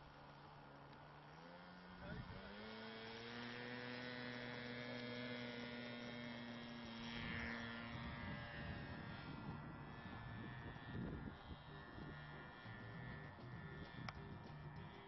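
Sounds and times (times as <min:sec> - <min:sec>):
model plane motor running: 0:00.0 - 0:15.0.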